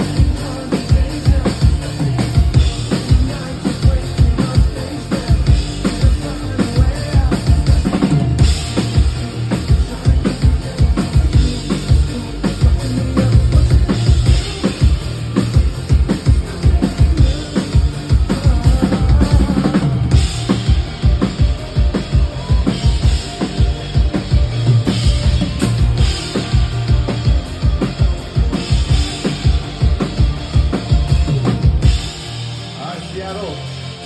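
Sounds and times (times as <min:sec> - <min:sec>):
live band music: 0:00.0 - 0:34.0.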